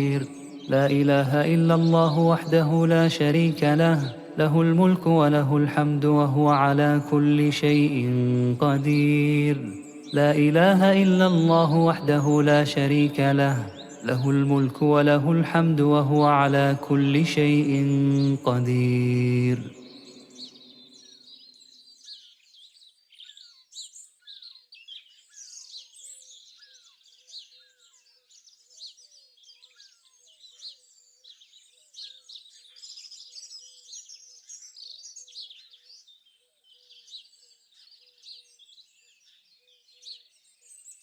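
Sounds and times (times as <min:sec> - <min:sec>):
birds chirping and trilling: 0:00.0 - 0:41.0.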